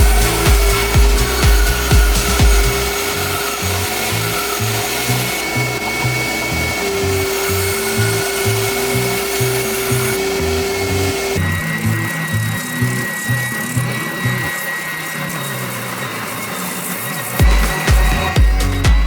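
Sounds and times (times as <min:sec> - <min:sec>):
synth music with bass rhythm: 0:00.0 - 0:14.5, 0:17.4 - 0:19.0.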